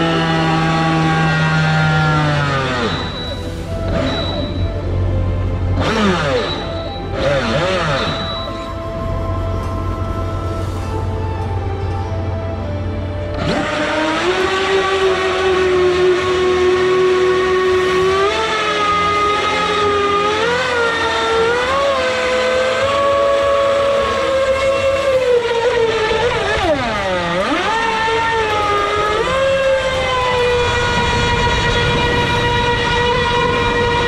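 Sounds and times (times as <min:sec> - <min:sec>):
electric motor whining: 0:00.0 - 0:34.0.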